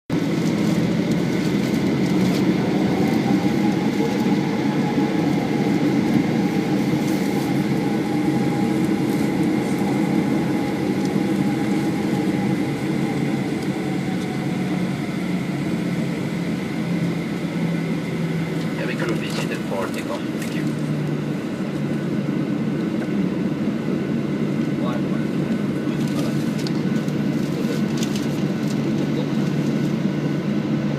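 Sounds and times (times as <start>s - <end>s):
airliner engines running: 0.1s - 30.9s.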